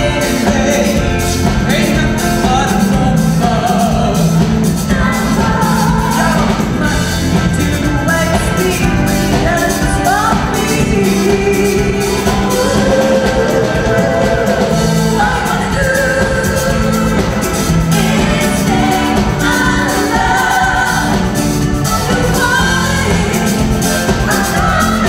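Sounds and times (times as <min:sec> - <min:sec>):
backing singers: 0:00.0 - 0:25.0
live pop band playing: 0:00.0 - 0:25.0
women singing lead: 0:00.0 - 0:25.0.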